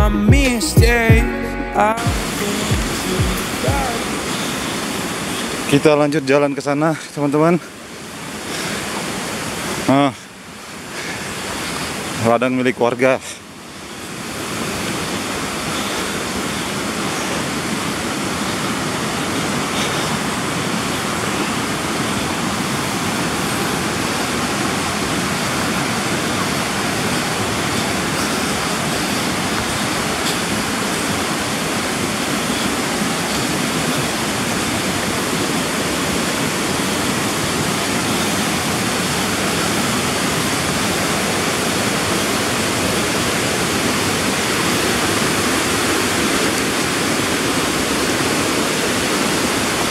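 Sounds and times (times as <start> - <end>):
rushing river and waterfall: 0.0 - 49.9.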